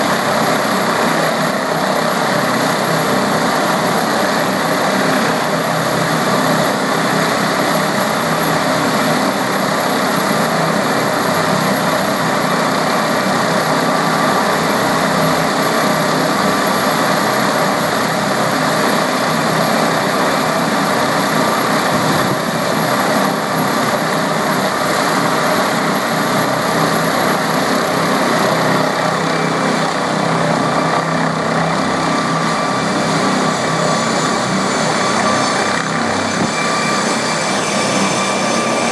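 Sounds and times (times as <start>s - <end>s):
helicopter engines and rotor: 0.0s - 38.9s
high turbine whine: 0.0s - 38.9s.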